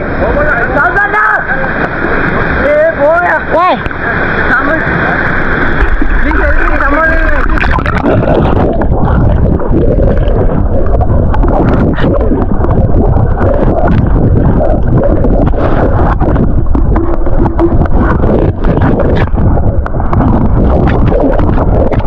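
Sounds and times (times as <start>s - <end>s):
rushing churning water: 0.0s - 22.0s
water splashes: 0.0s - 22.0s.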